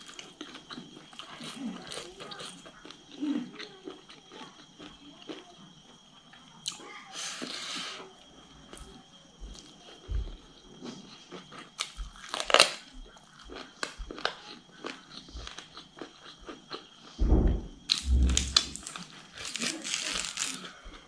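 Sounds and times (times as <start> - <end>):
chewing food: 0.0 - 7.5, 8.2 - 17.1, 17.8 - 21.0.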